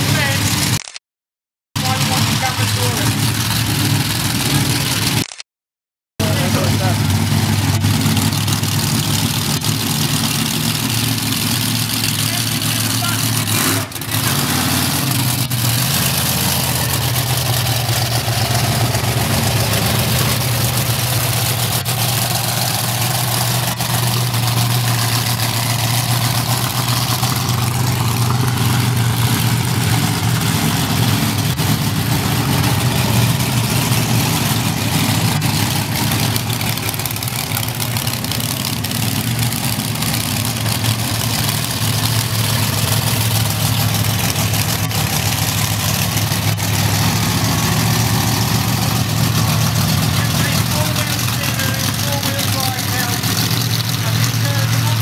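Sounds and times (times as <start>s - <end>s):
truck engine idling loudly: 0.0s - 0.9s, 1.8s - 5.4s, 6.2s - 55.0s.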